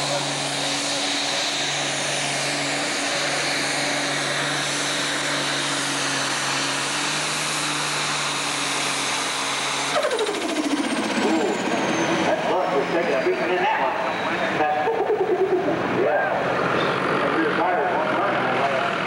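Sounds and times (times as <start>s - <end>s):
diesel tractor engine high-revving: 0.0s - 19.0s.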